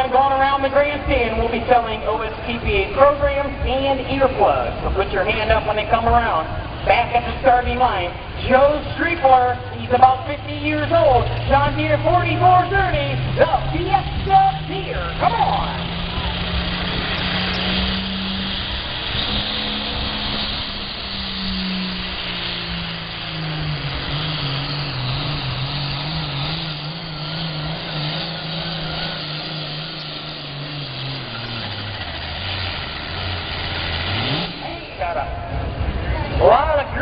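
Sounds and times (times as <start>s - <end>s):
tractor diesel engine at full throttle: 0.0s - 37.0s.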